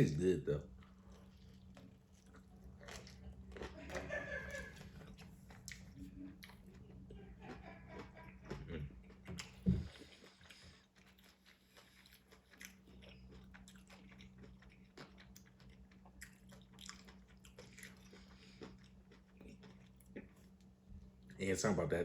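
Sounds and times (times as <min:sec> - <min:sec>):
man chewing food: 0:00.6 - 0:21.4.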